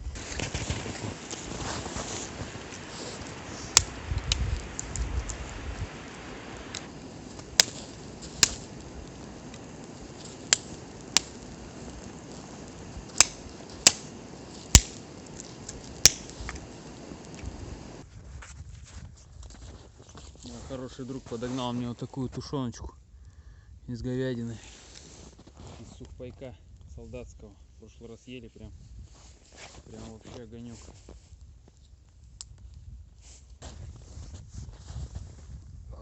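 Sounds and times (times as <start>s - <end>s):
campfire flame hissing: 0.0s - 18.1s, 19.4s - 35.8s
burning wood popping: 0.0s - 23.4s, 24.0s - 34.8s.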